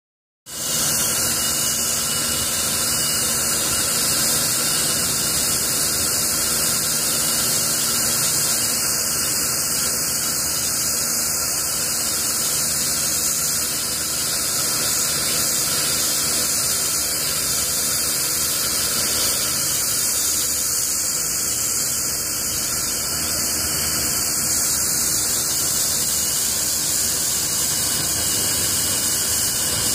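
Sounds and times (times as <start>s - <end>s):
motor and pump hum: 0.5s - 29.9s
pressure washer jet hiss: 0.5s - 29.9s.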